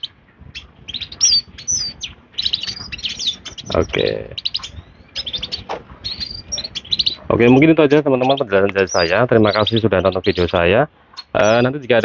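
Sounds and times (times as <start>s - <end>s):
canaries chirping and twittering: 0.0s - 12.0s.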